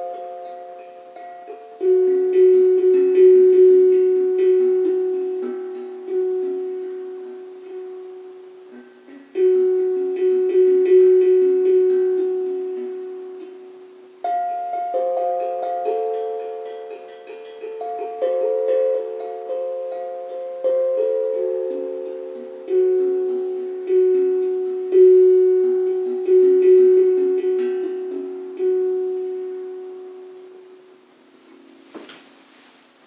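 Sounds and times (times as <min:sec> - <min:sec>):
steel tongue drum notes: 0:00.0 - 0:32.2.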